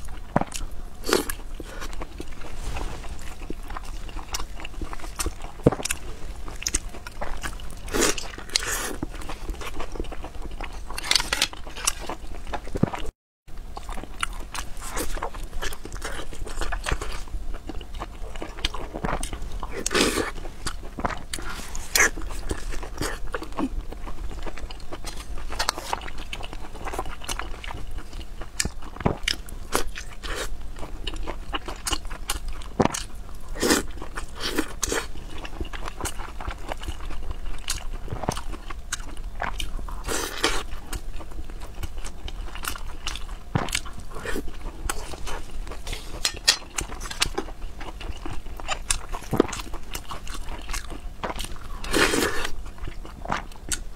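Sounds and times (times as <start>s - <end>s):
person chewing wet food: 0.0s - 13.1s, 13.7s - 53.9s.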